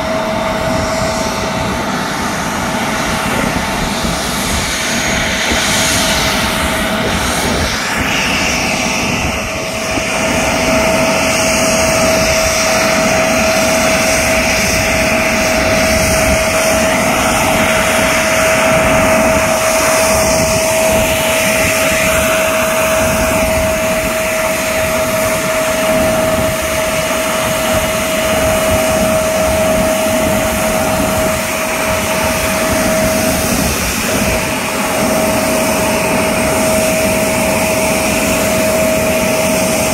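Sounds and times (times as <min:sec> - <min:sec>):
constant engine whine: 0:00.0 - 0:39.9
jet engines running: 0:00.0 - 0:39.9.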